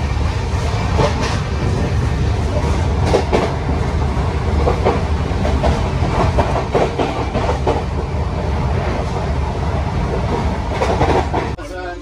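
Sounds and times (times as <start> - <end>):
train coach rumble: 0.0 - 11.6.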